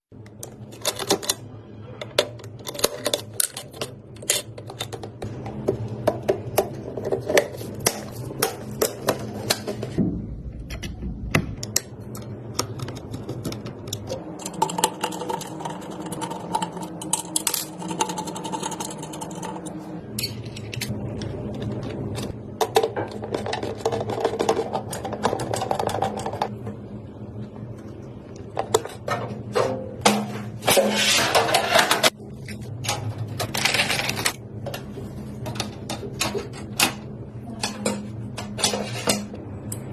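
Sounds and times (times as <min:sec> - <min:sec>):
low hum: 0:05.1 - 0:39.9.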